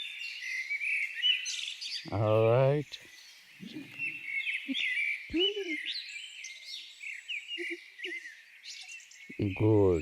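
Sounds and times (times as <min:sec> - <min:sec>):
small birds chirping and singing: 0:00.0 - 0:10.0.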